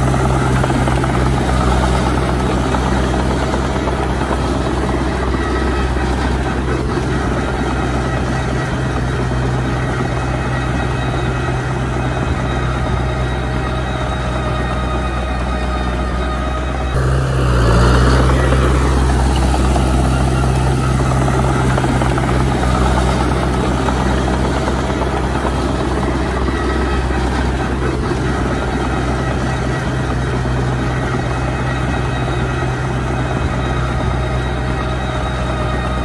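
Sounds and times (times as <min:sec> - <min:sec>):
diesel engines throbbing: 0:00.0 - 0:36.0.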